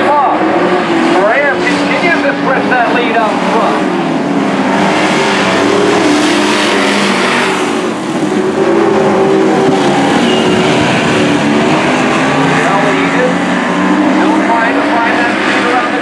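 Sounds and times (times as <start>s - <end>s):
race truck engines droning: 0.0s - 16.0s.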